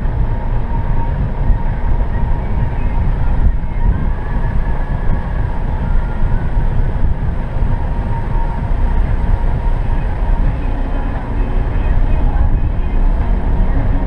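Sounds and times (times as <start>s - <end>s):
car engine and tyre rumble: 0.0s - 14.0s
faint steady whine: 0.0s - 14.0s.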